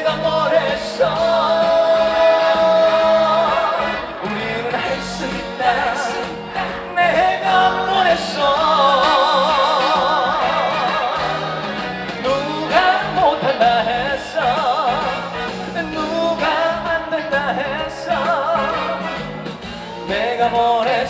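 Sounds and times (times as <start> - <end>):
band accompaniment: 0.0 - 21.0
man singing with vibrato: 0.0 - 21.0.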